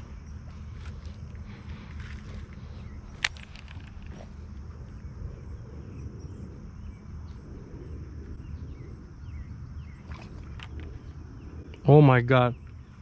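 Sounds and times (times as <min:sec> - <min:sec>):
constant low rumble: 0:00.0 - 0:13.0
high insect drone: 0:00.0 - 0:13.0.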